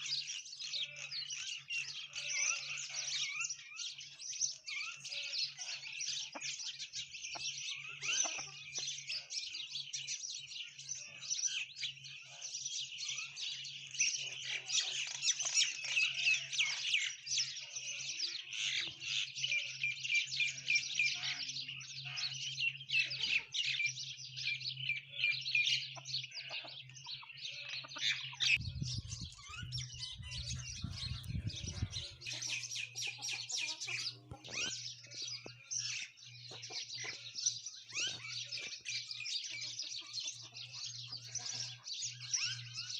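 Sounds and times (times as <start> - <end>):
birds chirping in chorus: 0.0 - 42.9.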